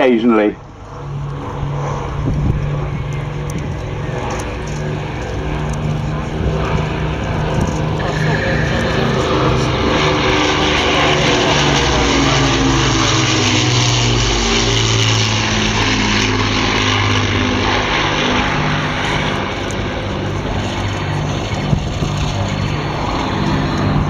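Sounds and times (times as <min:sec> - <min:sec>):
piston aircraft engines droning: 0:00.0 - 0:24.0.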